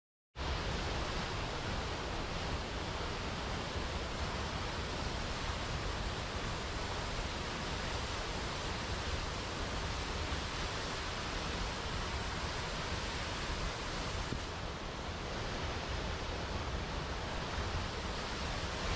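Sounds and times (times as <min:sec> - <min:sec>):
waterfall rushing: 0:00.4 - 0:18.9.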